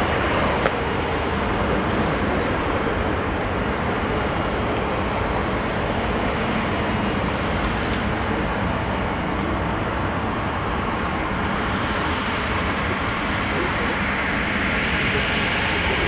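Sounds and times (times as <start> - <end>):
jet engine rush: 0.0 - 16.0.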